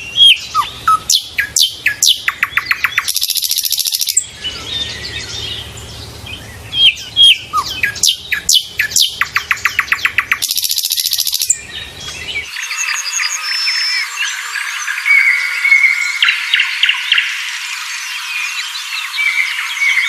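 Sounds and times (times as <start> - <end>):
buzzy bird trill: 0.0 - 20.0
songbirds chirping: 0.0 - 20.0
whistled bird notes: 0.0 - 20.0.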